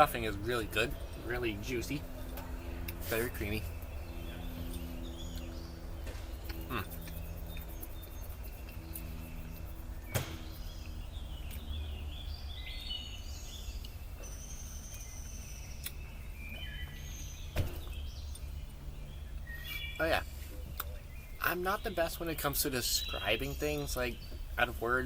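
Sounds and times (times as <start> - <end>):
birds chirping: 0.0 - 25.0
low background rumble: 0.0 - 25.0.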